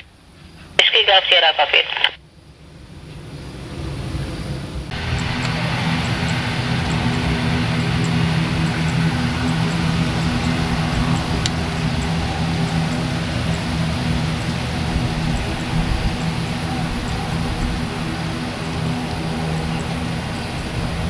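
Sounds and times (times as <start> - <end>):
jet engines droning: 0.0 - 21.0
low even hum: 0.0 - 21.0.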